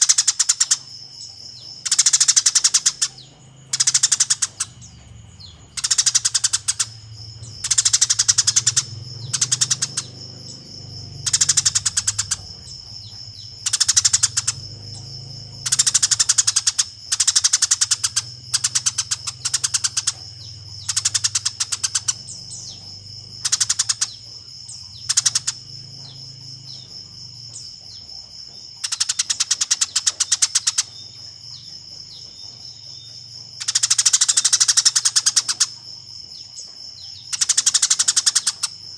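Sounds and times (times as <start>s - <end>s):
sparrow chattering chirps: 0.0s - 38.9s.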